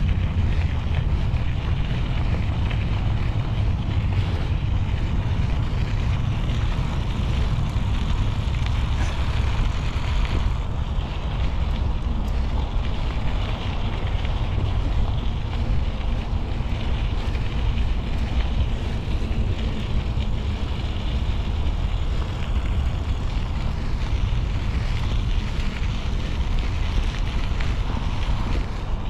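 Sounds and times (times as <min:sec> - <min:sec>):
low rumble: 0:00.0 - 0:29.0
wind rush on microphone: 0:00.0 - 0:29.0.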